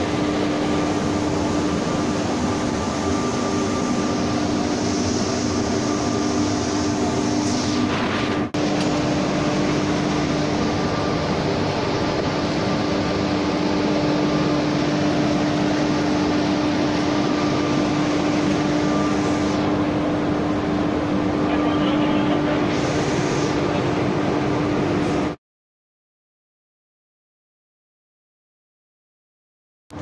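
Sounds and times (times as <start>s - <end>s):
locomotive machinery hum: 0.0s - 25.4s.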